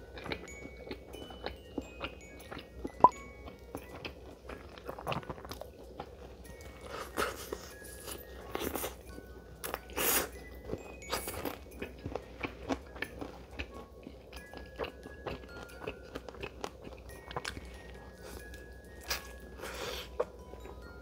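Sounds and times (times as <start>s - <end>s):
chewing meat: 0.0s - 21.0s.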